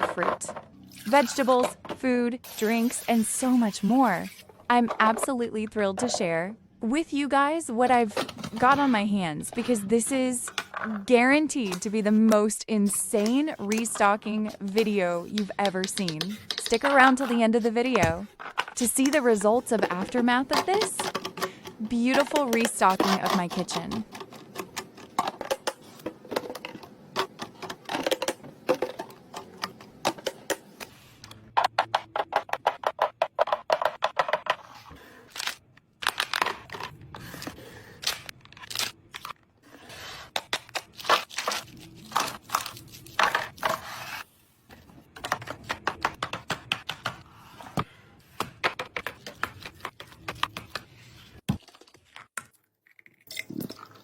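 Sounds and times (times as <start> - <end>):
food packaging clicks and scrapes: 9.6 - 53.2.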